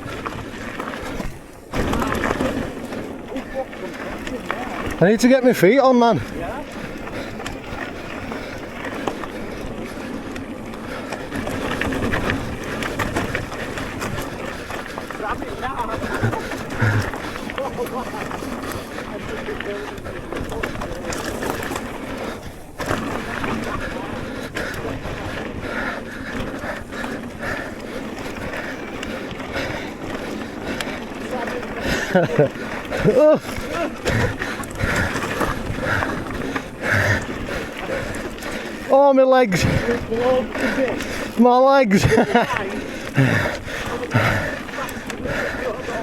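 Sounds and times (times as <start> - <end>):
wind buffeting microphone: 0.0 - 38.9
bike rattling over bumps: 0.0 - 46.0
bike tyres on dirt trail: 0.0 - 46.0.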